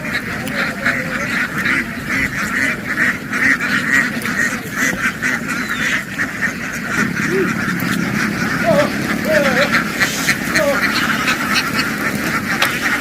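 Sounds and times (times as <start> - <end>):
flock of ducks quacking: 0.0 - 13.0.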